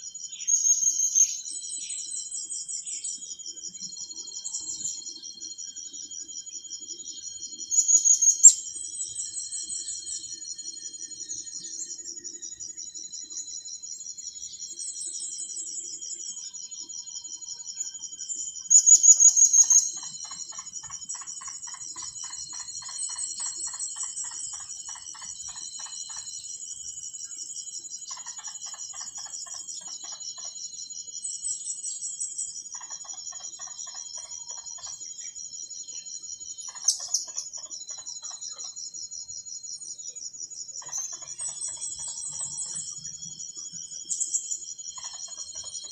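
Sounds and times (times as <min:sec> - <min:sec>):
insects pulsing trill: 0:00.0 - 0:45.9.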